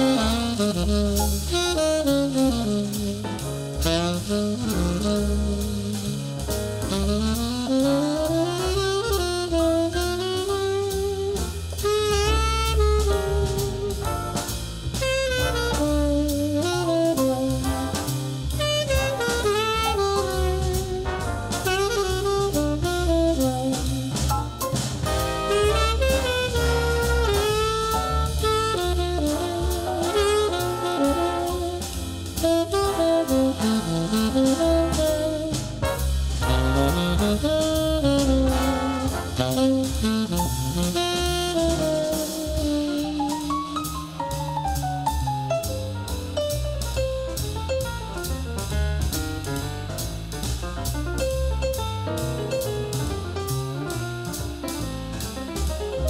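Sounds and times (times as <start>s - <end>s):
drums: 0.0s - 56.0s
jazz tenor saxophone: 0.0s - 56.0s
low bass line: 0.0s - 56.0s.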